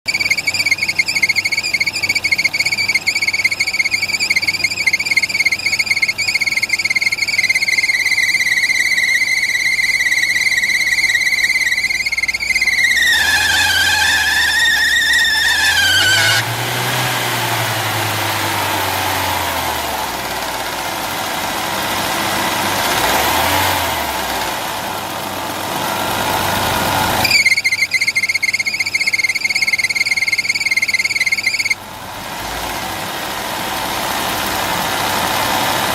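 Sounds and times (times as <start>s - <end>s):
hydraulic pump squealing: 0.0s - 24.4s, 26.5s - 31.8s.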